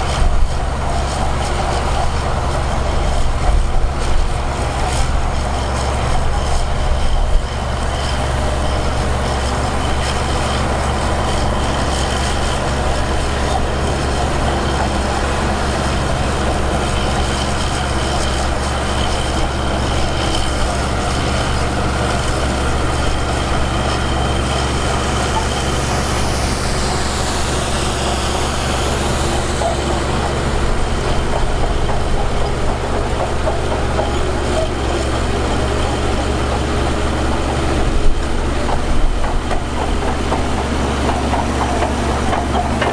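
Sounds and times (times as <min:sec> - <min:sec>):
heavy diesel machinery running: 0:00.0 - 0:42.9.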